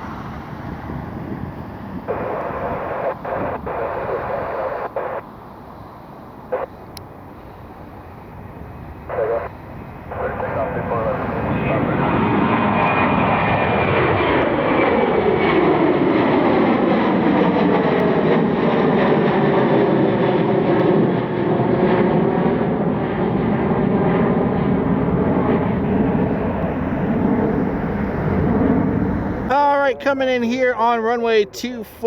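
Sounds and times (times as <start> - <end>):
jet airliner passing by: 0.0 - 32.0.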